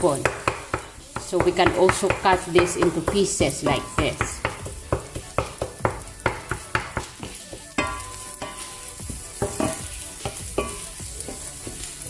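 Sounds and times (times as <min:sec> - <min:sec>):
wooden spoon knocking on pan: 0:00.0 - 0:11.9
faint sizzle: 0:00.0 - 0:12.0.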